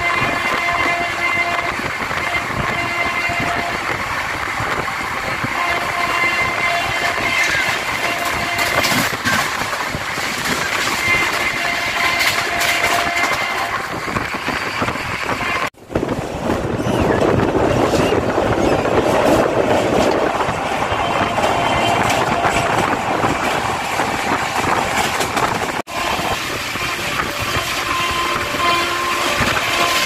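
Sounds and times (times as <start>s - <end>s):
wheel-on-rail rumble: 0.0s - 30.0s
wind rushing: 0.0s - 30.0s.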